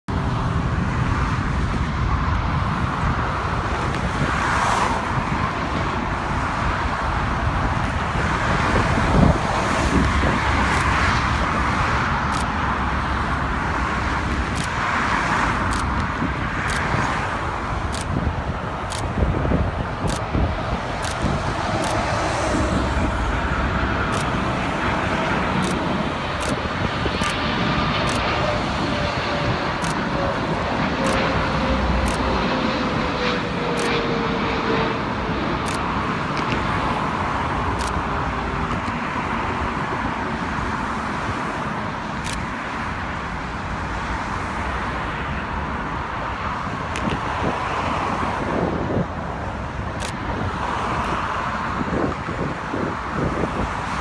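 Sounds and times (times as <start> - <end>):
jet engines whining: 0.1 - 54.0
road traffic noise: 0.1 - 54.0.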